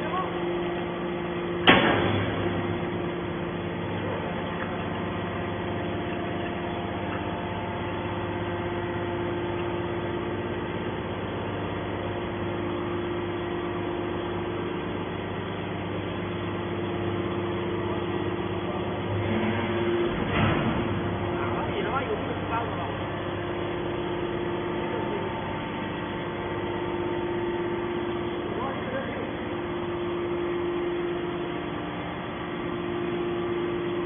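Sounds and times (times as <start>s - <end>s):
baler motor and pump humming: 0.0s - 34.0s.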